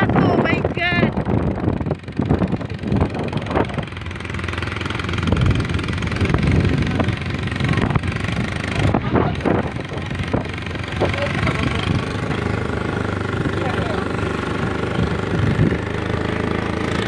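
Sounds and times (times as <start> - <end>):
street noise: 0.0 - 17.0
vehicle engine idling: 0.0 - 17.0.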